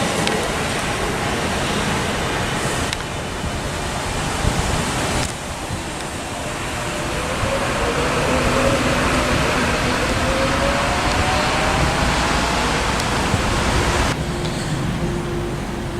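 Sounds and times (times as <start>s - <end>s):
distant rail traffic: 0.0s - 15.9s
electric train motor whine: 0.0s - 15.9s
wind rushing: 0.0s - 15.9s.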